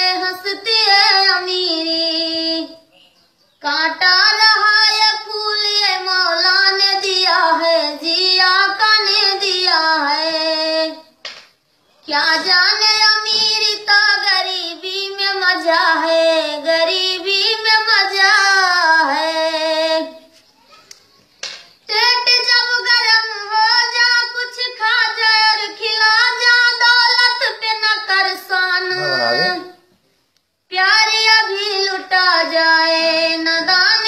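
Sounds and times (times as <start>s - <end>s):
elderly woman singing unaccompanied: 0.0s - 2.9s, 3.6s - 11.2s, 12.0s - 20.3s, 21.9s - 29.8s, 30.7s - 34.0s.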